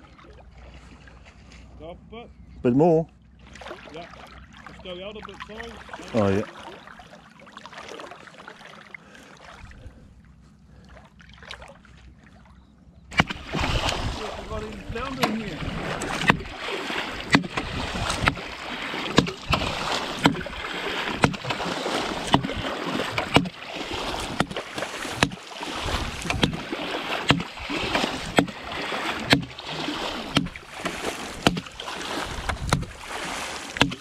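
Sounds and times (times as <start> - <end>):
footsteps splashing in shallow water: 0.0 - 1.8, 3.3 - 34.0
water swishing: 0.0 - 1.9, 3.1 - 34.0.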